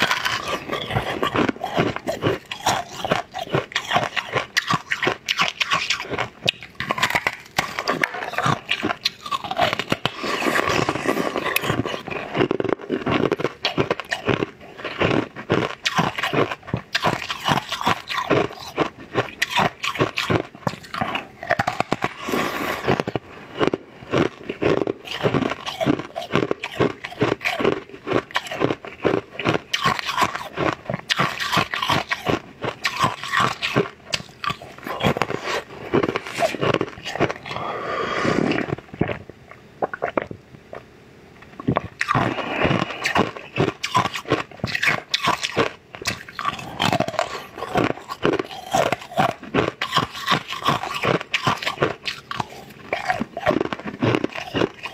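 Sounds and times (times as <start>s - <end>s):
person chewing and slurping jelly: 0.0s - 54.9s.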